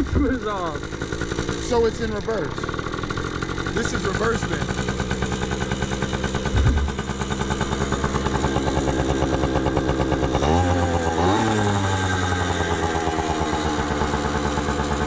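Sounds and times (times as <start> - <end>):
small motorbike engine idling: 0.0 - 15.0.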